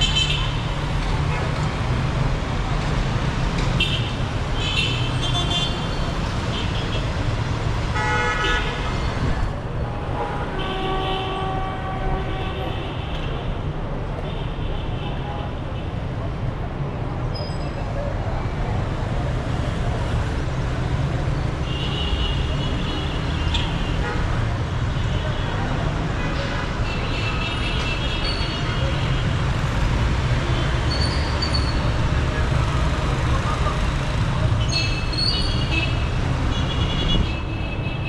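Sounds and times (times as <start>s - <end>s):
traffic engines rumbling: 0.0s - 38.0s.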